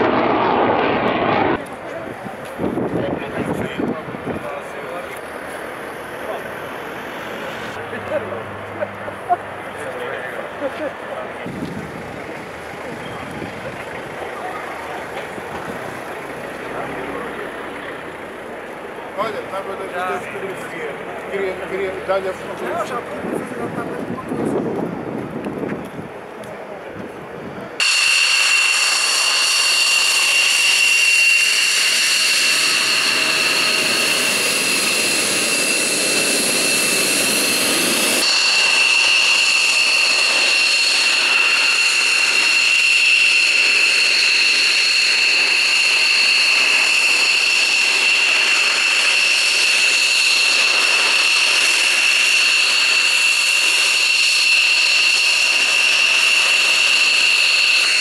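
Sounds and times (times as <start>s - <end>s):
jet engine whine and roar: 0.0s - 58.0s.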